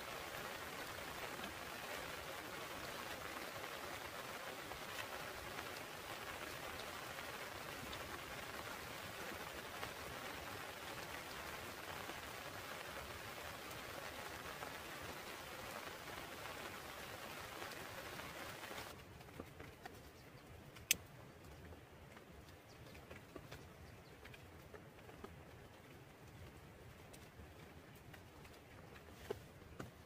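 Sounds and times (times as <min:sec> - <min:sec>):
rain pattering on foliage: 0:00.0 - 0:30.0.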